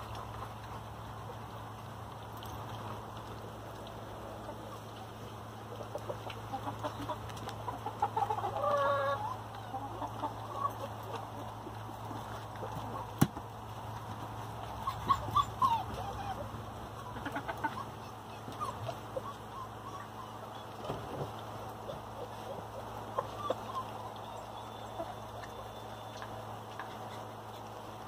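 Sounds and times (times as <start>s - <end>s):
hens clucking: 3.1s - 28.0s.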